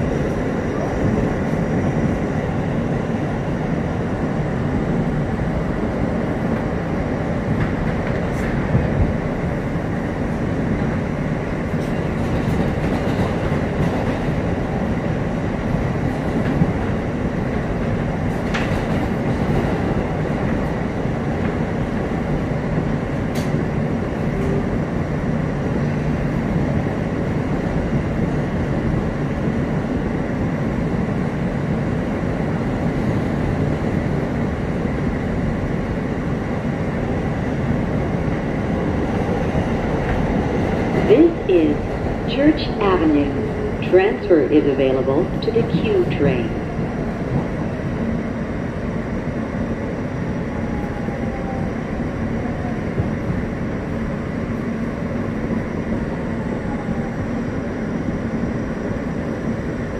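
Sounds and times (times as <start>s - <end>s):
subway car rumble: 0.0s - 59.9s.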